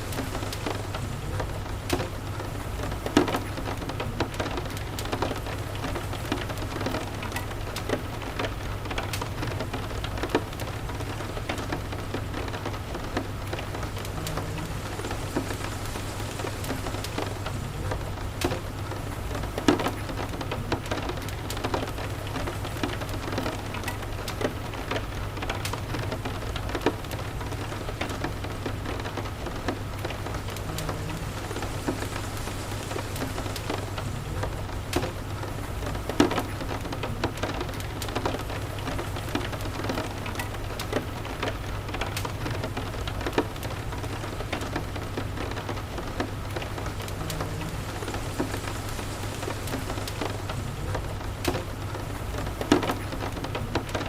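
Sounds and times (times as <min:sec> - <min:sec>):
low constant rumble: 0:00.0 - 0:54.0
steady rain falling: 0:00.0 - 0:54.0
wood fire crackling: 0:00.0 - 0:54.0.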